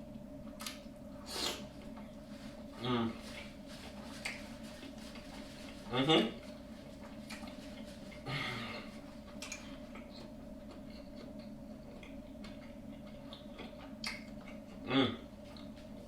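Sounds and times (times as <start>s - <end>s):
steady low hum: 0.0s - 16.0s
soft chewing: 0.4s - 16.0s.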